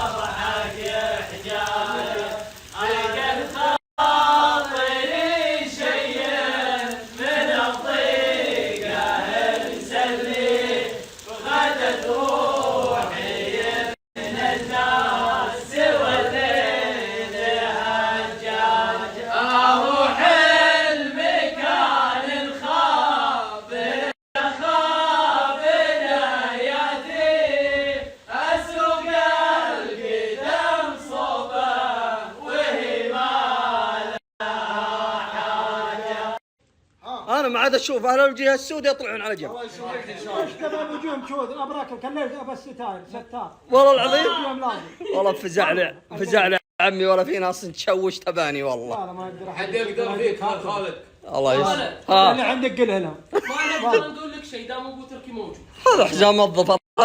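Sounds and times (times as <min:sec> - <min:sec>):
men chanting a poem: 0:00.0 - 0:36.4, 0:37.1 - 0:46.6, 0:48.5 - 0:53.0.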